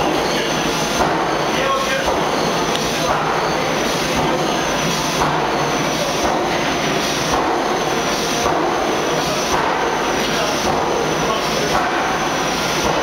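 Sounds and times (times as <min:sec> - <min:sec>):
forging press machinery noise: 0:00.0 - 0:13.0.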